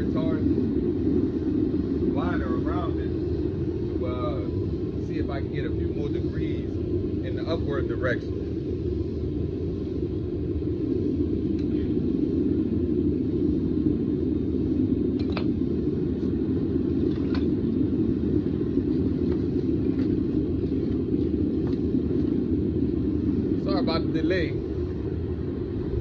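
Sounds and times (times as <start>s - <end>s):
furnace burner rumbling: 0.0s - 26.0s.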